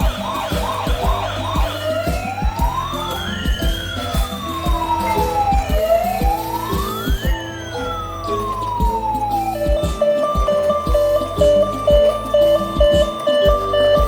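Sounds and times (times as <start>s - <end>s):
background music with a beat: 0.0s - 14.0s.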